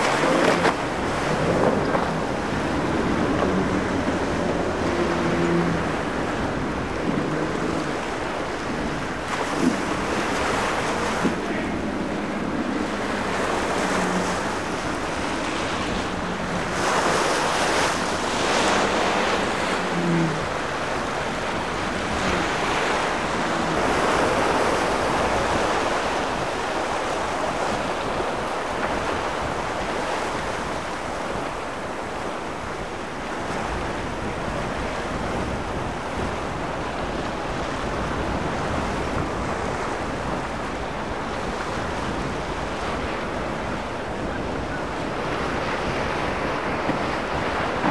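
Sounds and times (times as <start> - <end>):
breaking waves: 0.0 - 47.9
outboard motors humming: 0.0 - 47.9
wind buffeting microphone: 0.0 - 47.9.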